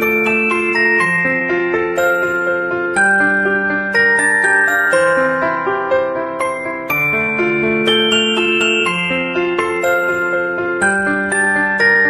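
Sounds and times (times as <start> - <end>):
bell-like mallet melody: 0.0 - 12.0.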